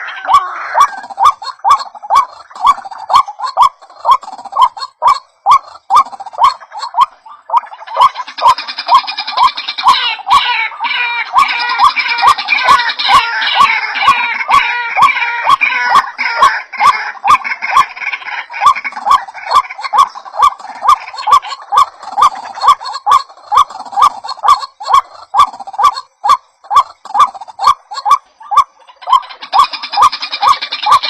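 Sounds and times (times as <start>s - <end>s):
higher bird chatter: 0.0s - 31.0s.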